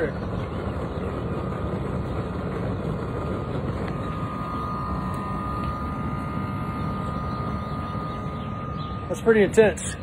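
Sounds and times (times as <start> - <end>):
fire roaring under a fan: 0.0 - 10.0
thin steady tone: 1.8 - 10.0.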